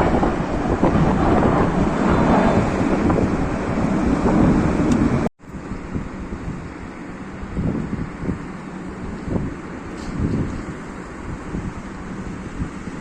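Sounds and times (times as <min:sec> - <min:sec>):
jet aircraft rumbling: 0:00.0 - 0:13.0
wind on microphone: 0:00.0 - 0:13.0.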